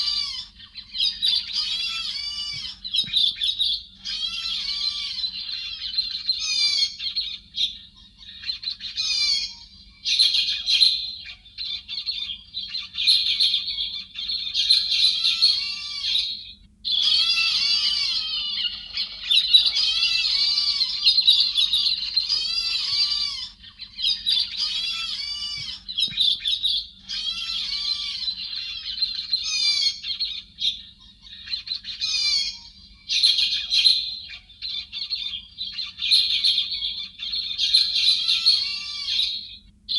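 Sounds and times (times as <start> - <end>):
birds chattering and trilling: 0.0 - 39.9.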